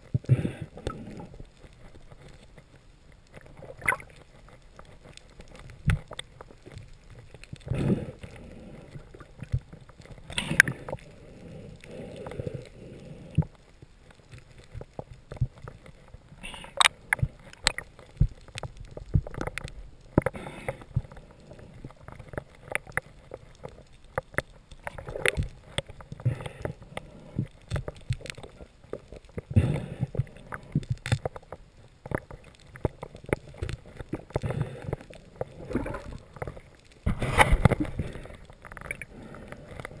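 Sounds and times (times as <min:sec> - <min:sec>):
sharp underwater clicks and knocks: 0:00.0 - 0:11.2, 0:13.3 - 0:40.0
water noise swells: 0:00.0 - 0:40.0.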